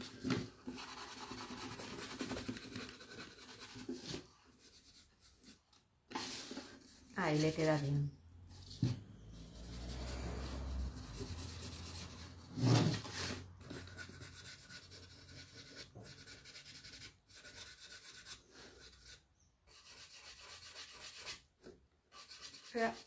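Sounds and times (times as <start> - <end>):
paintbrush scrubbing on wood: 0.0 - 21.5, 22.1 - 23.0.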